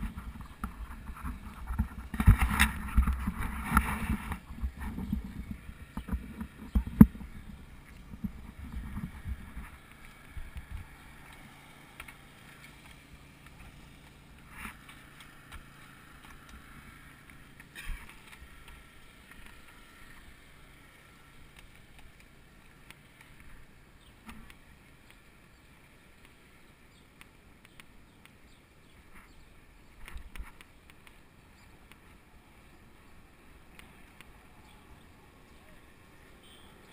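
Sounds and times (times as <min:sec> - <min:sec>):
bicycle rolling on asphalt: 0:00.0 - 0:36.9.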